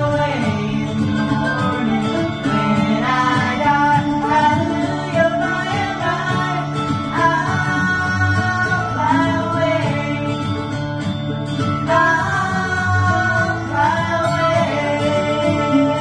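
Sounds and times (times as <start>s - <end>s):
guitar accompaniment: 0.0s - 16.0s
person singing: 0.0s - 16.0s.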